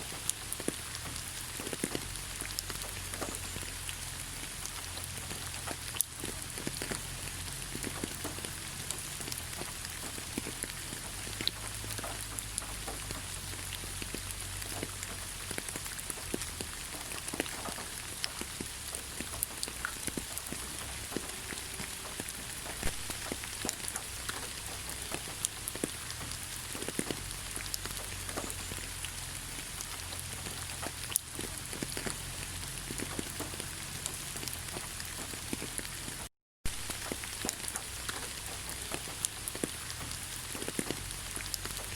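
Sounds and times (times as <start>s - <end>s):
raindrops ticking: 0.0s - 41.9s
steady rain hiss: 0.0s - 41.9s.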